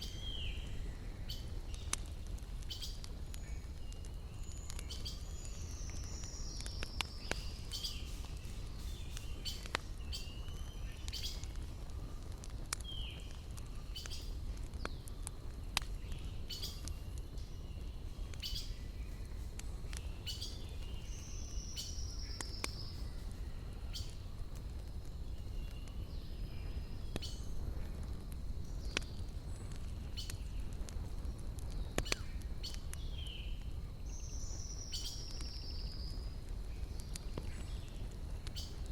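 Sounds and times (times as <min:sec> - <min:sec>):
birds singing: 0:00.0 - 0:24.4, 0:28.6 - 0:38.9
wood fire crackling: 0:00.0 - 0:38.9.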